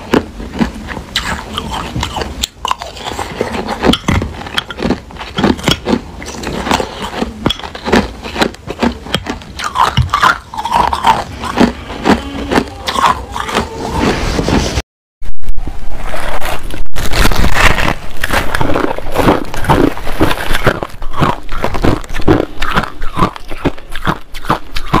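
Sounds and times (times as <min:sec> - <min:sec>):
ice being chewed: 0:00.0 - 0:14.2, 0:16.0 - 0:25.0.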